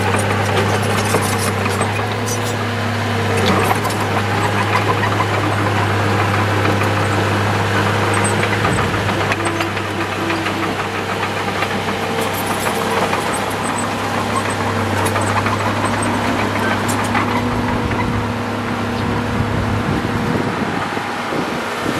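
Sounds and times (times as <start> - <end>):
bulldozer diesel engine running: 0.0 - 21.9.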